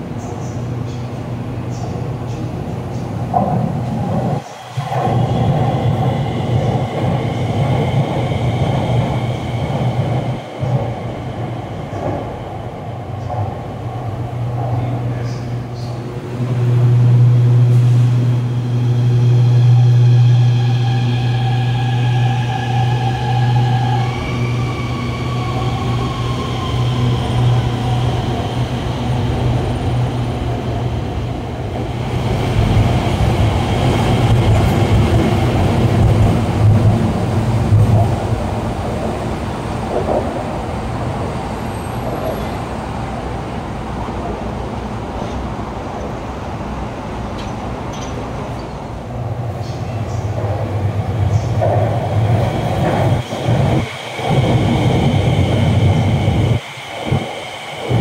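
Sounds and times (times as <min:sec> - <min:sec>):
electric train hum and whine: 0:00.0 - 0:58.0
train rumbling past: 0:00.0 - 0:58.0.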